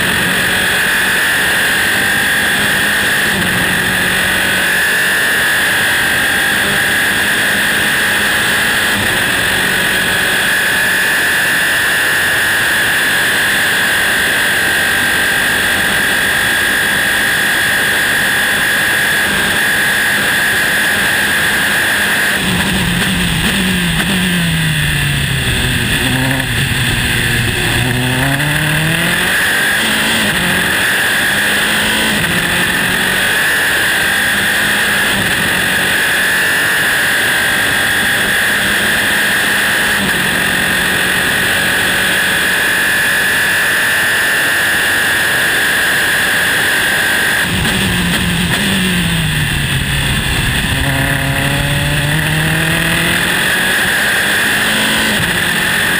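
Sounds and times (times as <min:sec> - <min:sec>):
racing car engine: 0:00.0 - 0:55.9.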